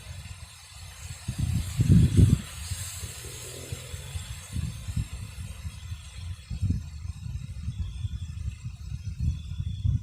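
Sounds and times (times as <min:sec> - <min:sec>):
faint hiss: 0:00.0 - 0:09.6
wind buffeting microphone: 0:00.0 - 0:10.0.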